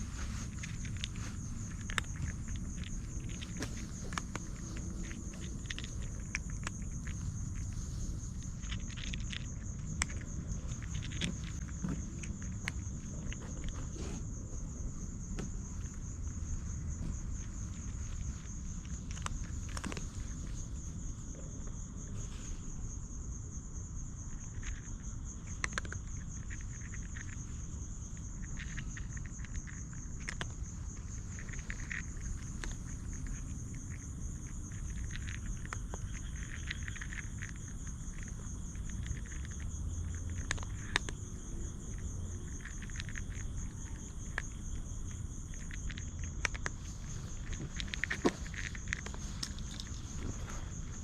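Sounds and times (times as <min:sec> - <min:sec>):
insects trilling: 0:00.0 - 0:51.0
low steady rumble: 0:00.0 - 0:51.0
small rustles and ticks: 0:00.0 - 0:51.0.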